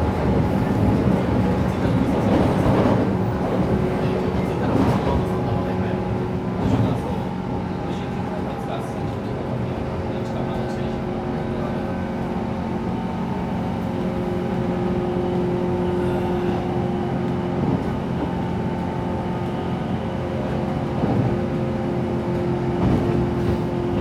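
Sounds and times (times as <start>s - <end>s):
train running gear hum: 0.0s - 24.0s
train wheels rumbling on rail: 0.0s - 24.0s.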